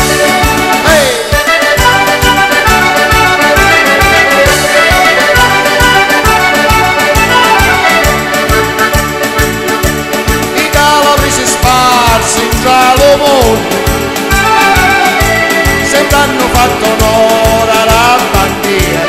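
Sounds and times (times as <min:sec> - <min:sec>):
instrumental keyboard melody with bass beat: 0:00.0 - 0:19.0.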